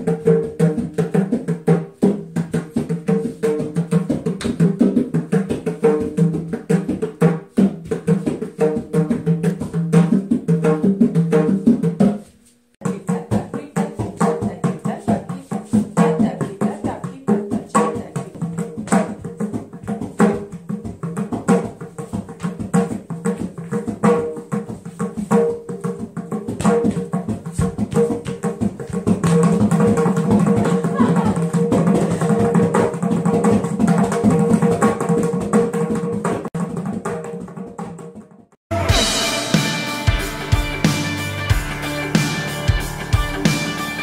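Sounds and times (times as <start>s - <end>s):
hand-played barrel drum: 0.0s - 44.0s.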